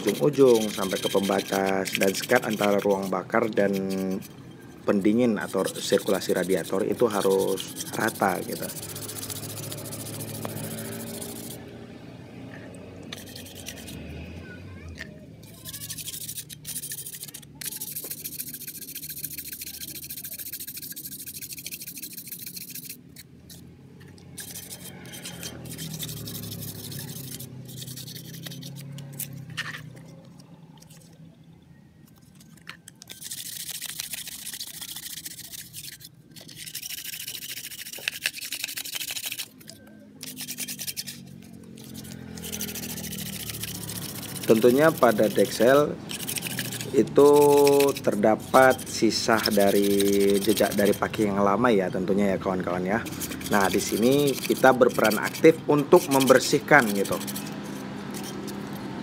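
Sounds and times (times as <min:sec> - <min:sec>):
sandpaper rasping on metal: 0:00.0 - 0:11.6, 0:13.1 - 0:14.2, 0:15.4 - 0:23.7, 0:24.4 - 0:31.1, 0:32.6 - 0:59.0.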